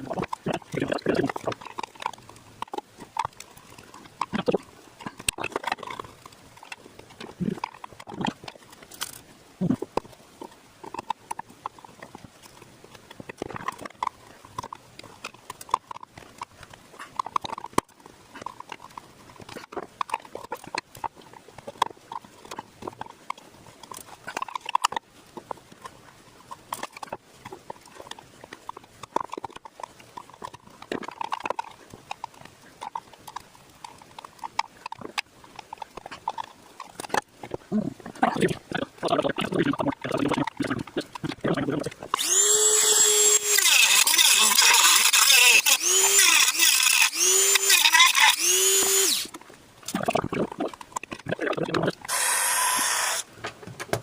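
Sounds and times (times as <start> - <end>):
hand tool scraping plastic: 0.0 - 54.0.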